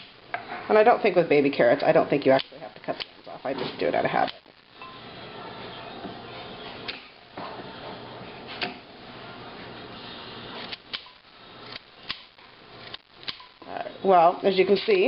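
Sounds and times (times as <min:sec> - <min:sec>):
steady hiss: 0:02.2 - 0:15.0.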